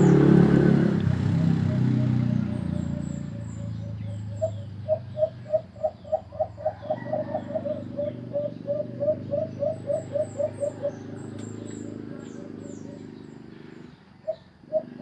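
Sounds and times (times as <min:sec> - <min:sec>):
dove cooing: 0:00.0 - 0:15.0
small birds chirping: 0:00.0 - 0:15.0.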